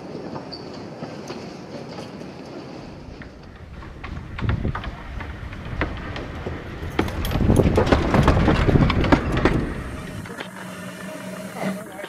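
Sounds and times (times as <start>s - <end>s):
steam train passing: 0.0s - 12.0s
wheels clattering on track: 0.0s - 12.0s.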